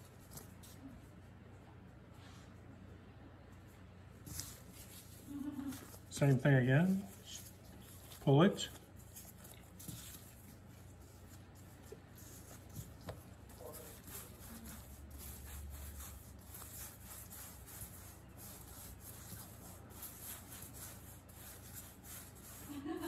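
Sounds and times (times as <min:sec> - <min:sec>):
low steady hum: 0:00.0 - 0:23.0
hands rubbing dough: 0:04.2 - 0:23.0.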